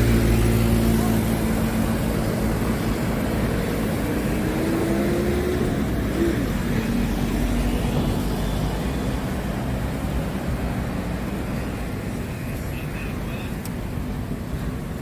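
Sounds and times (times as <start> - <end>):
vehicle engine tone rising: 0.0 - 12.2
road traffic passing: 0.0 - 15.0.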